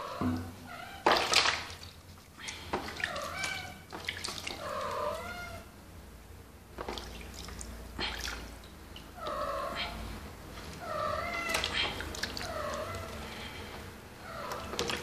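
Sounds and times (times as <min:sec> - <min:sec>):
water splashing: 0:00.1 - 0:05.4, 0:06.7 - 0:15.0.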